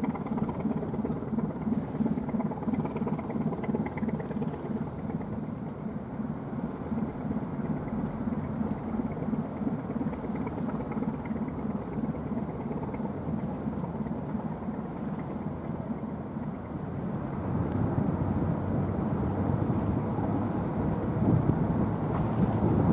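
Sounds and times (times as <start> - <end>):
ship engine drone: 0.0 - 22.9
water wash along hull: 0.0 - 22.9.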